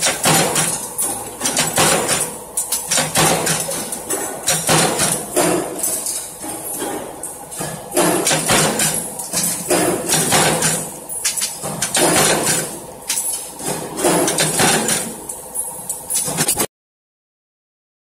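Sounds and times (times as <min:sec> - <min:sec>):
punch press metal clanks: 0:00.0 - 0:15.3
low machine hum: 0:00.0 - 0:16.5.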